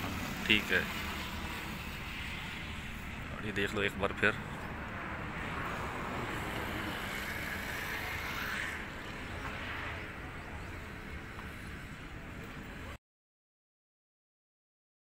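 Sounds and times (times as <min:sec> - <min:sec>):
vehicle rumble with hiss: 0:00.0 - 0:13.0.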